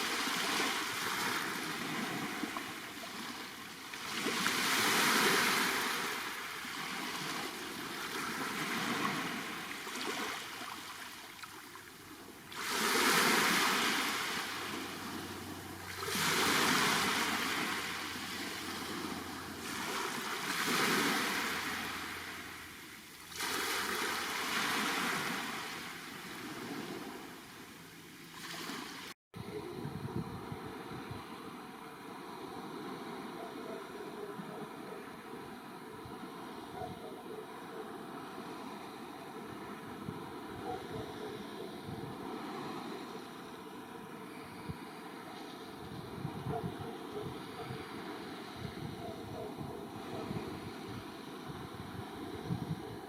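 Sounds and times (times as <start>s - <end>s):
waves breaking on shore: 0.0s - 29.2s, 30.4s - 53.0s.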